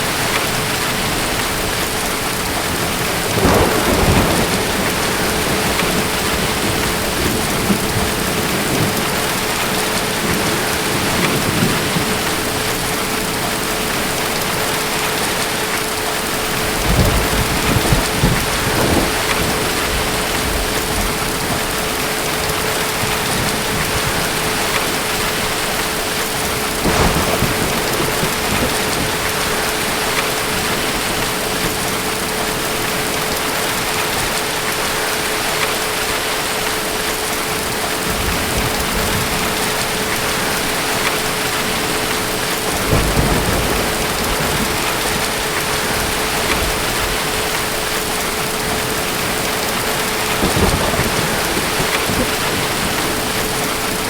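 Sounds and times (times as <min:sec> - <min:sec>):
distant thunder rumbling: 0:00.0 - 0:34.3, 0:37.6 - 0:54.0
steady rain falling: 0:00.0 - 0:54.0.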